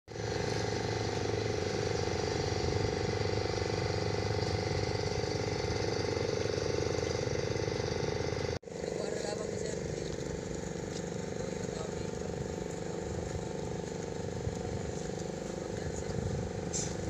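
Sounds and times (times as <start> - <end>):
boat engine running: 0.1 - 17.0.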